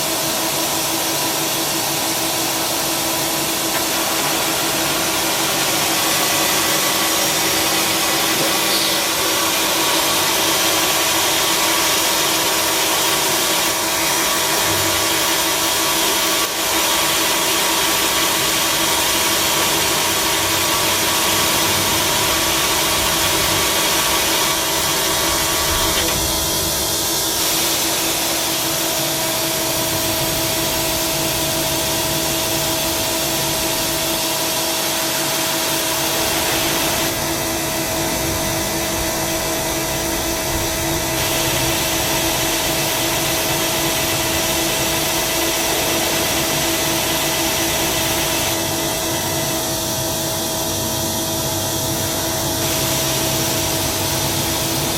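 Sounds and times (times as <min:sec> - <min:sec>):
lathe machine hum and whine: 0:00.0 - 0:54.9.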